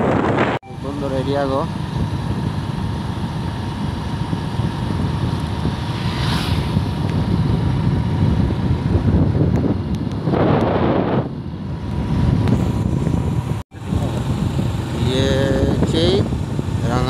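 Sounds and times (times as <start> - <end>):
motorbike engine and road rumble: 0.0 - 17.0
wind buffeting microphone: 0.0 - 17.0.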